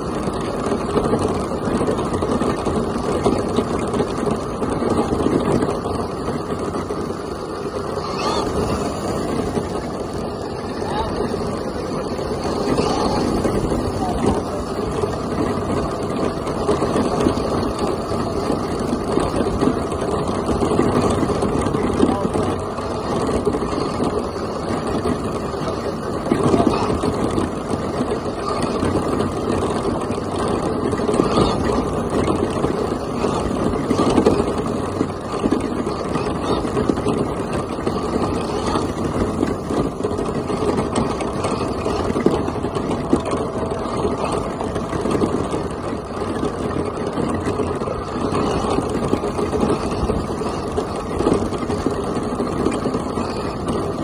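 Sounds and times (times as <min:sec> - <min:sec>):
rc truck motor and tyres on gravel: 0:00.0 - 0:54.0.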